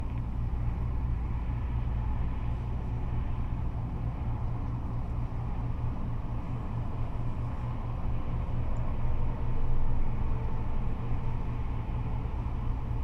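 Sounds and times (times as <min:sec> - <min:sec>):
freeway traffic: 0:00.0 - 0:13.0.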